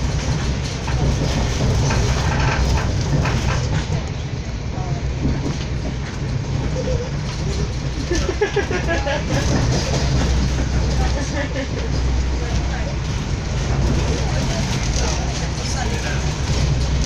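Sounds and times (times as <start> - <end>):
train rumble from inside: 0.0 - 17.0
wheels clicking over rail joints: 0.0 - 17.0.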